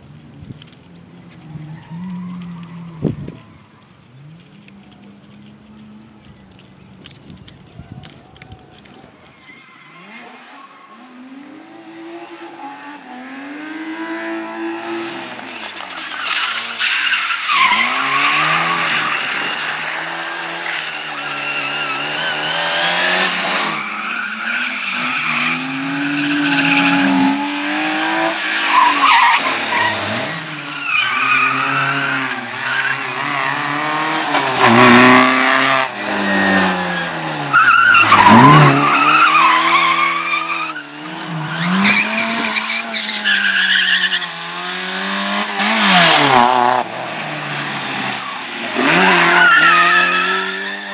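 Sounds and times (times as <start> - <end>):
tyres squealing and skidding: 1.4 - 4.4, 8.2 - 11.7, 14.7 - 50.9.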